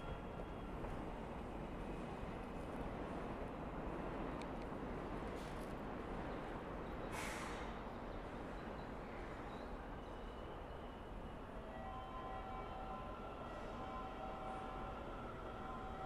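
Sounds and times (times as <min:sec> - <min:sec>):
rumble of trains: 0:00.0 - 0:16.0.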